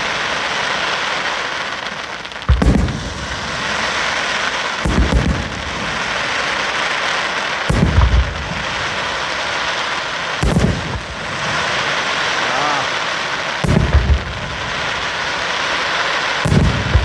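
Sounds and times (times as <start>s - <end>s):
fireworks shells booming: 0.0s - 17.0s
steady hiss: 0.0s - 17.0s.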